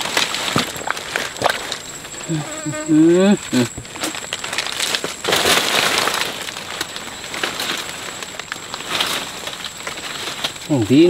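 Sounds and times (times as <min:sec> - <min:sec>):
high insect whine: 0:00.0 - 0:11.0
plants rustling and crackling: 0:00.0 - 0:11.0.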